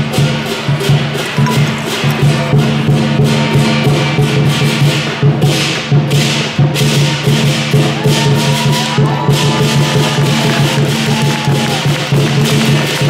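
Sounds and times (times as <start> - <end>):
cymbals clashing: 0.0 - 13.0
large drum beating: 0.0 - 13.0.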